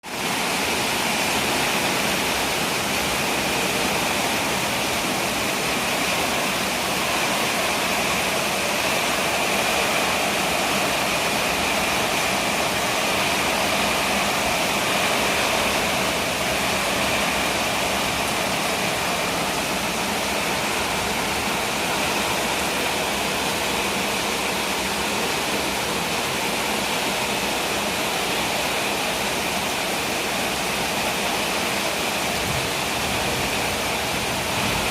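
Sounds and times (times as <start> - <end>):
heavy rain downpour: 0.0 - 34.9.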